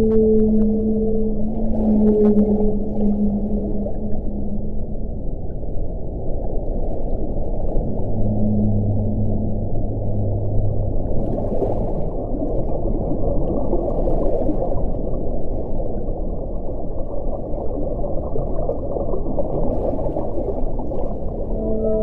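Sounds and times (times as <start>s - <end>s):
wind rumbling: 0.0s - 18.0s.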